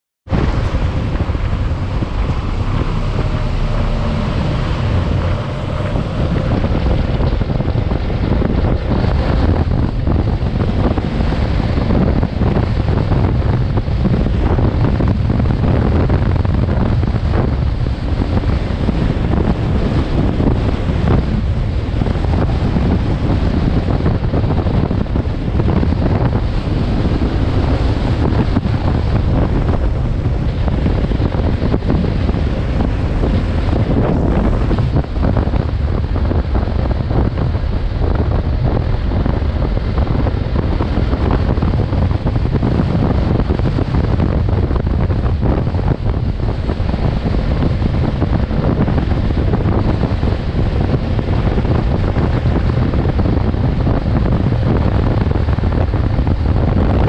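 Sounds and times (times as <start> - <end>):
wind buffeting microphone: 0.2 - 57.0.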